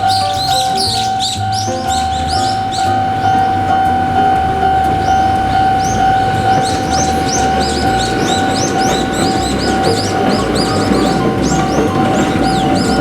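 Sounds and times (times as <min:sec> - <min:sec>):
birds chirping: 0:00.0 - 0:13.0
level-crossing warning bell: 0:00.0 - 0:13.0.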